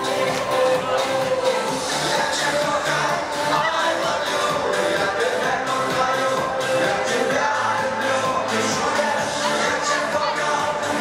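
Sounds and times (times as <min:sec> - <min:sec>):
loud music: 0:00.0 - 0:11.0.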